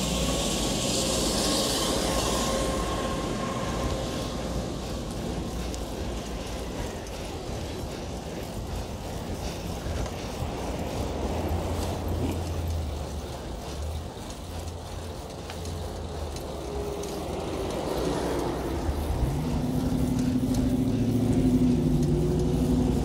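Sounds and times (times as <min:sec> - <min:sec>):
bicycle ticking: 0:00.0 - 0:23.0
motor vehicle engine: 0:00.0 - 0:23.0
wind and road rumble: 0:00.0 - 0:23.0.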